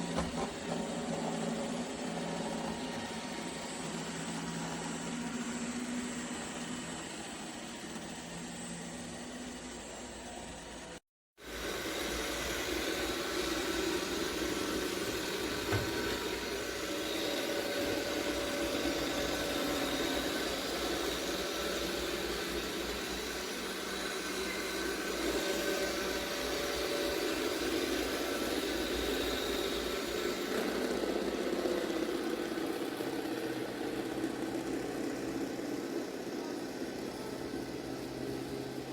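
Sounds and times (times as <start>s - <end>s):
robot vacuum whirring hum: 0.0s - 38.9s.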